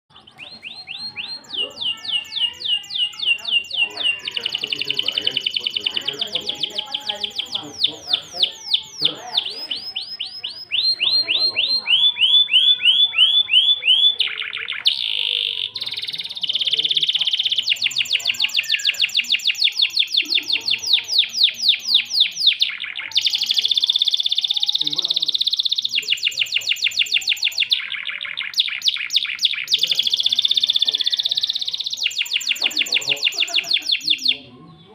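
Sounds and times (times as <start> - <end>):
canary singing: 0.1 - 34.9.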